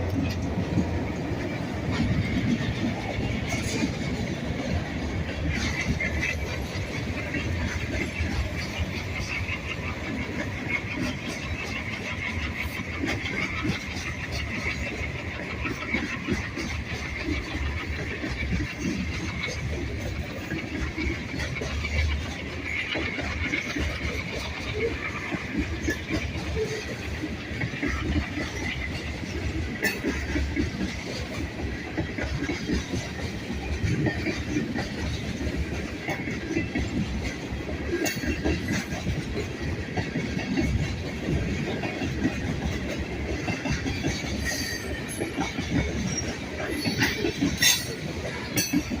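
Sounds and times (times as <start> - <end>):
wheels clattering over rail joints: 0.0 - 49.0.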